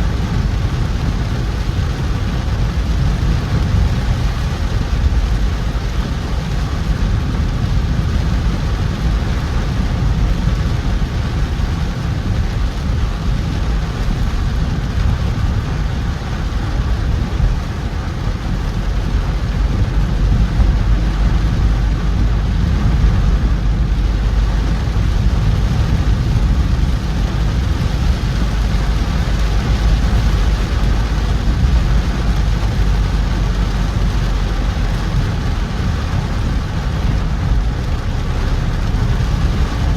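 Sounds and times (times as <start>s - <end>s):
car engine and tyres rumbling: 0.0s - 39.9s
rain hissing on wet road: 0.0s - 39.9s.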